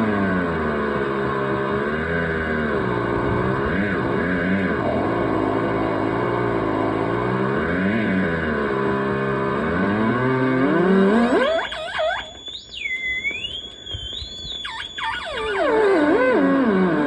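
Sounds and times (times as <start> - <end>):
electronic gliding tones: 0.0 - 17.0
high warbling electronic whine: 0.0 - 17.0.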